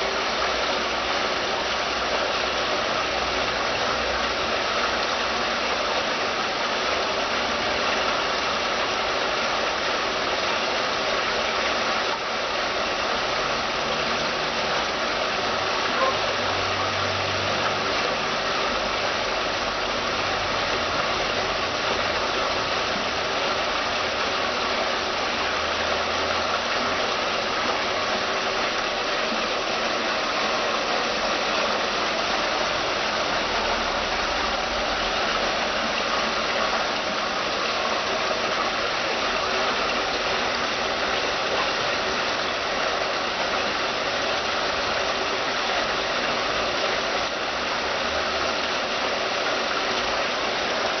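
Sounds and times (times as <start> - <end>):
fountain water pouring over steps: 0.0 - 51.0.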